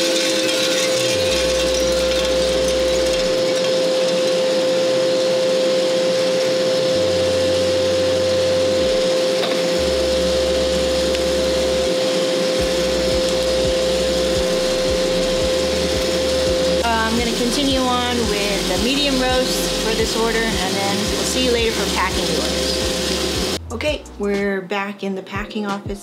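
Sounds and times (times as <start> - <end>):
mid-pitched whine: 0.0 - 24.3
coffee roaster blower and drum: 0.0 - 24.4.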